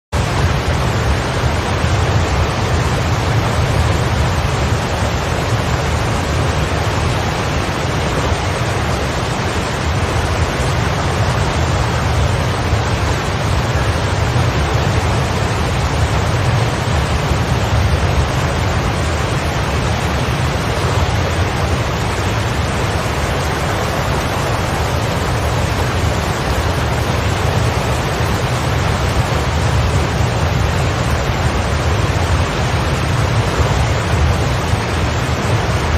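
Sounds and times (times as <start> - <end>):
heavy rain: 0.1 - 35.9.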